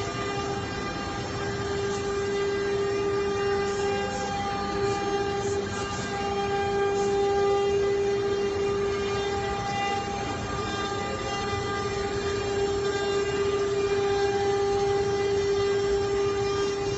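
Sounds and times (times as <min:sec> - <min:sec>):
cnc router spindle whine: 0:00.0 - 0:16.9
machine noise: 0:00.0 - 0:16.9.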